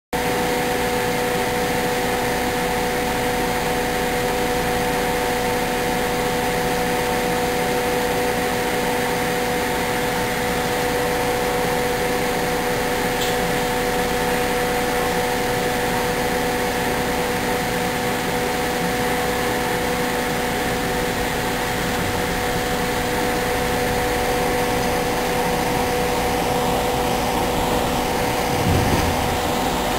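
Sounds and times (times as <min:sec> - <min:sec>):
electric train running hum: 0:00.2 - 0:29.9
train running rumble and hiss: 0:00.2 - 0:29.9.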